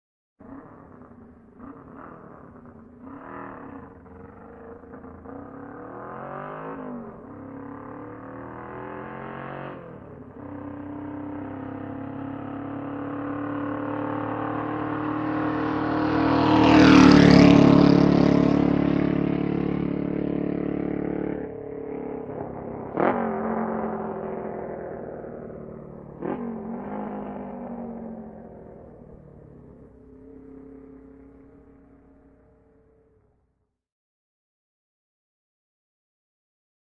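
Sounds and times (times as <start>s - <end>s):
motorcycle engine revving and passing: 0.4s - 33.4s.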